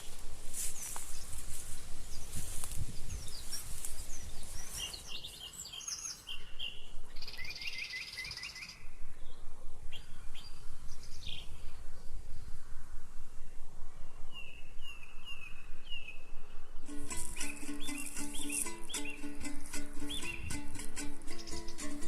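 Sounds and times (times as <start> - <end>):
low background noise: 0.0 - 22.0
small birds chirping and trilling: 0.0 - 22.0.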